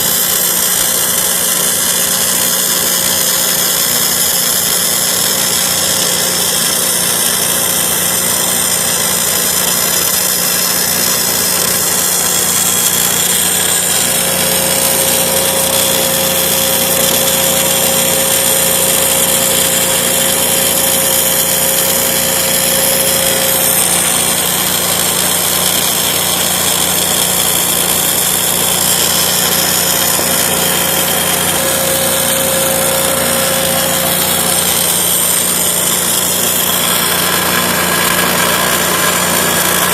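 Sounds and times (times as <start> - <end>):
machinery drone: 0.0 - 39.9
thin whine: 0.0 - 39.9.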